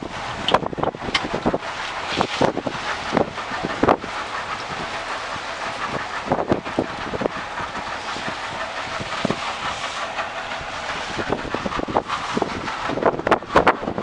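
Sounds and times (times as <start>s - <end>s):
boat rushing hiss: 0.0s - 14.0s
wind on microphone: 0.0s - 14.0s.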